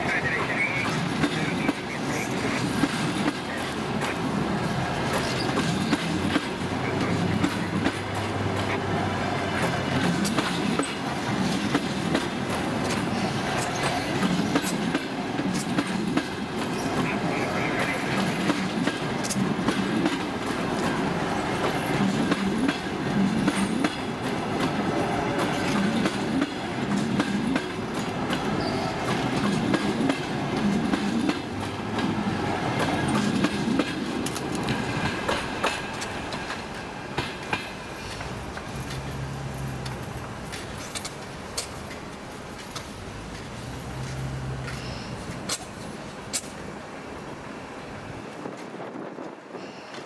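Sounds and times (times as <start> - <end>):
train wheels clickety-clack: 0.0 - 46.8, 48.2 - 50.0.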